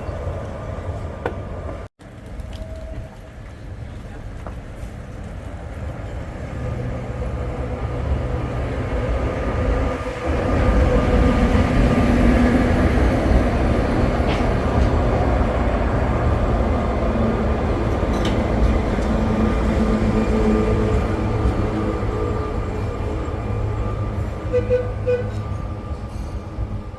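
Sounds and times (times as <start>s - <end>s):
tram rumbling on rails: 0.0s - 26.9s.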